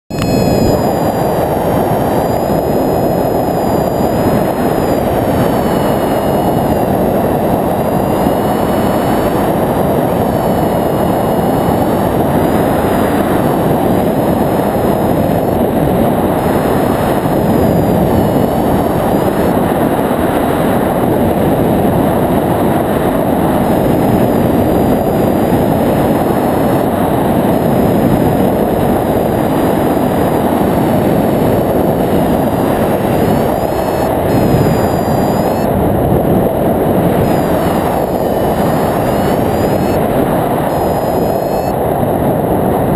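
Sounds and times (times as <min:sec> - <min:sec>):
wind rushing over camera: 0:00.1 - 0:42.9.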